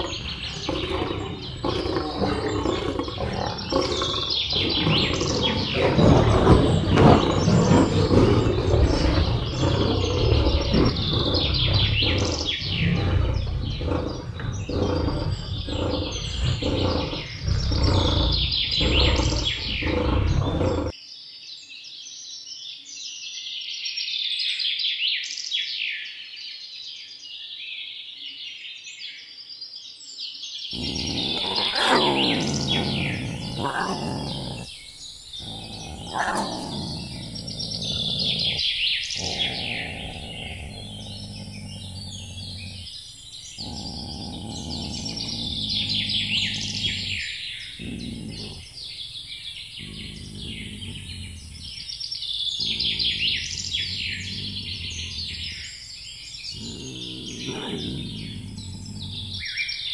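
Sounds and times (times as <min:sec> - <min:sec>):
birds chirping: 0:00.0 - 0:21.0, 0:30.6 - 0:59.9
lion growls and grunts: 0:00.0 - 0:21.0, 0:30.7 - 0:59.9.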